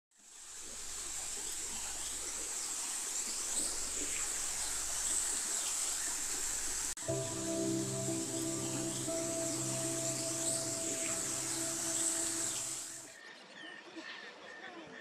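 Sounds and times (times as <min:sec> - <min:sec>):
stream running water: 0:00.2 - 0:13.0.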